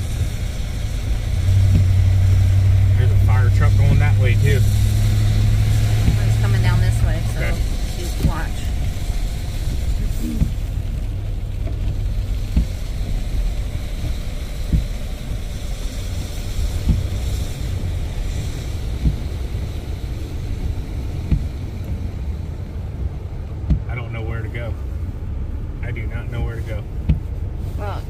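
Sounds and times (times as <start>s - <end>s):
faint hiss of tyres: 0.0s - 28.0s
truck cab low rumble: 0.0s - 28.0s.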